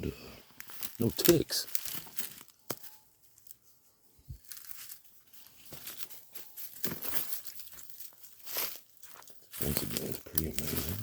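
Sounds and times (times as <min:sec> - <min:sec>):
footsteps crunching through dry leaves: 0:00.5 - 0:03.6, 0:04.3 - 0:11.0.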